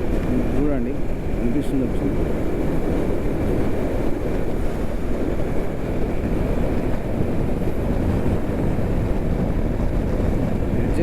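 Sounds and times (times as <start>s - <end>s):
motorcycle wind and road noise: 0.0s - 11.0s.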